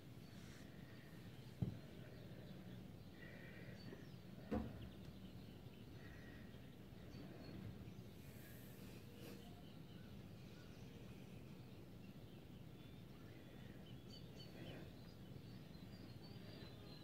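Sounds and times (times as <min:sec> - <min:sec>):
faint low background noise: 0:00.0 - 0:17.0.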